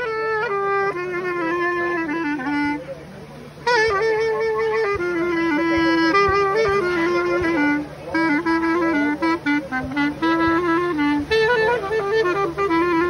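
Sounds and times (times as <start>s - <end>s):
clarinet solo melody: 0.0s - 13.0s.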